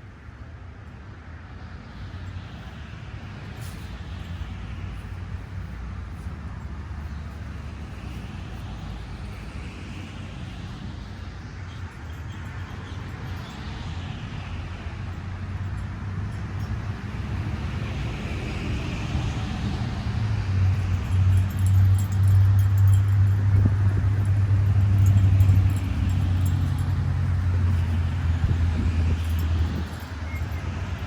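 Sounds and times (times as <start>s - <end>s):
road traffic passing: 0.0s - 31.0s
low engine hum: 1.2s - 31.0s.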